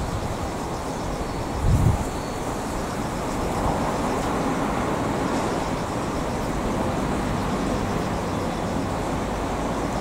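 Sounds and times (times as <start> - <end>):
electric train rumbling on track: 0.0 - 10.0
traffic noise: 0.0 - 10.0.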